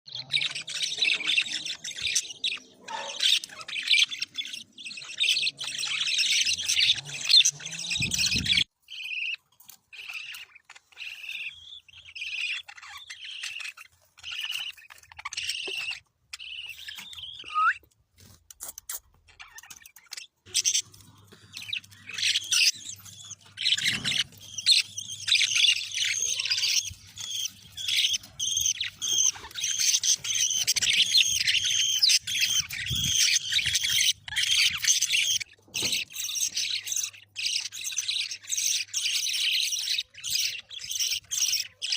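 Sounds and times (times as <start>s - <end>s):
budgerigars chirping: 0.1s - 41.9s.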